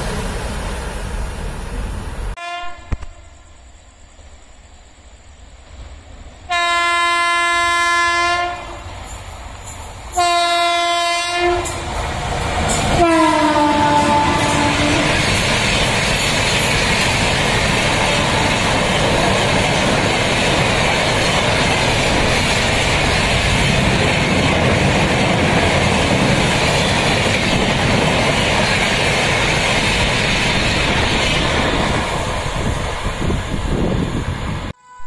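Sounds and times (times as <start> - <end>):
train passing at high speed: 0.0 - 35.0.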